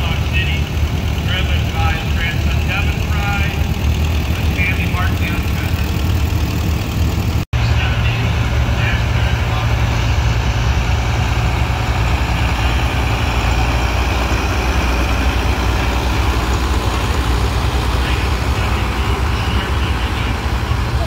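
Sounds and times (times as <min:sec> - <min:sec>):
tractor diesel engine drone: 0:00.0 - 0:21.0.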